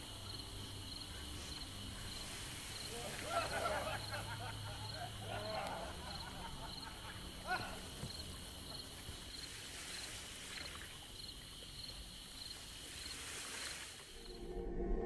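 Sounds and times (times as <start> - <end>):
outdoor ambience hiss: 0.0 - 14.7
insect chirping: 0.0 - 15.0.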